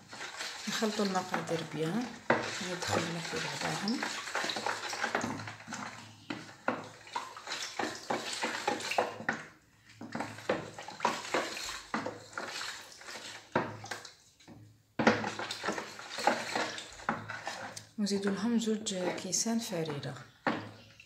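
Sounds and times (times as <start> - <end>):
water sloshing in a bowl: 0.0 - 21.0.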